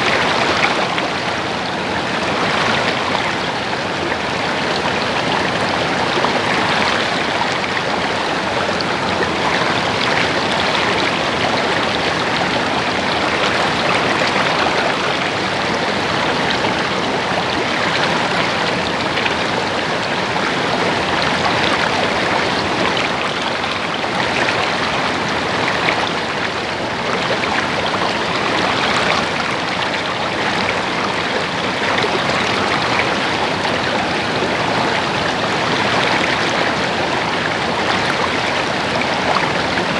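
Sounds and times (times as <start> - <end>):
water babbling: 0.0 - 39.9.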